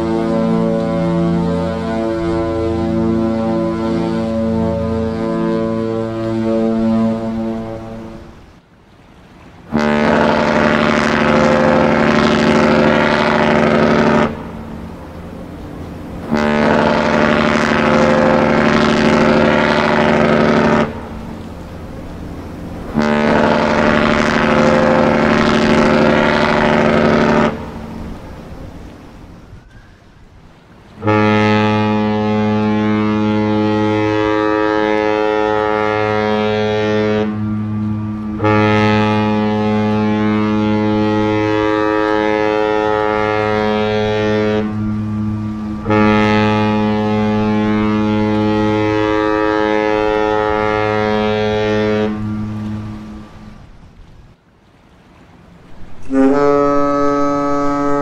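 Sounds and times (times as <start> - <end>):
deep ship horn blasts: 0.0 - 8.6, 9.5 - 54.4, 55.0 - 58.0.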